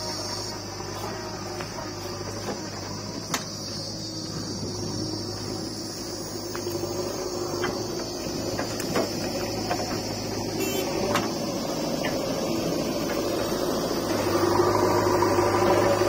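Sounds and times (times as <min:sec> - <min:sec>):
diesel engines running: 0:00.0 - 0:16.0.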